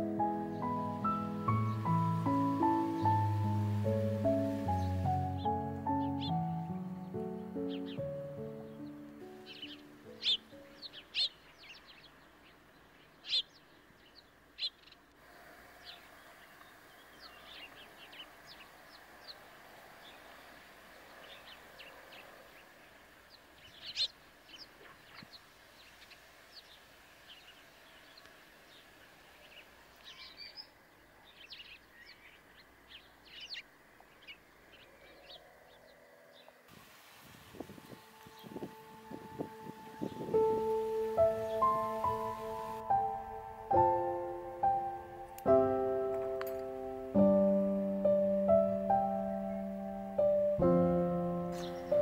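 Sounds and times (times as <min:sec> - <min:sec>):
birds chirping: 0:00.0 - 0:36.7, 0:37.5 - 0:52.0
faint steady hiss: 0:00.0 - 0:52.0.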